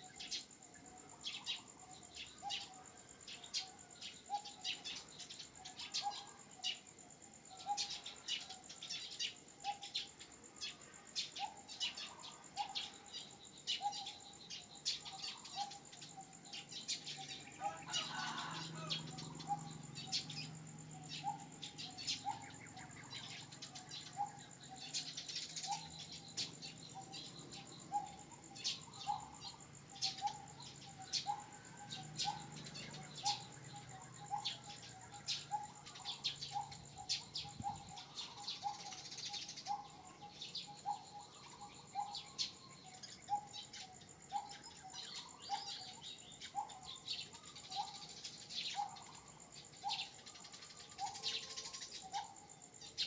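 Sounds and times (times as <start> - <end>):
birds chirping: 0.0 - 53.0
high insect drone: 0.0 - 53.0.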